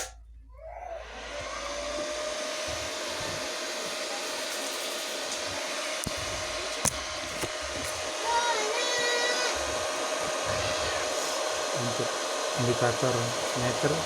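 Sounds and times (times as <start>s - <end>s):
cooling fan whooshing: 0.8s - 14.0s.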